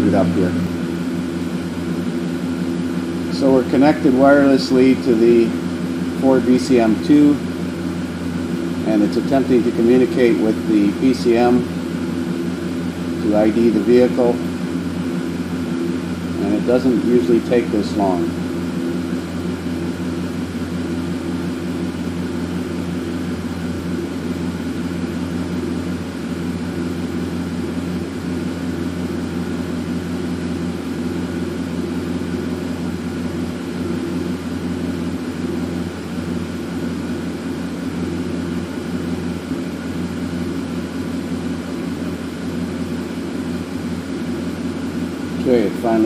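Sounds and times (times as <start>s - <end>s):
truck engine idling: 0.0s - 46.0s.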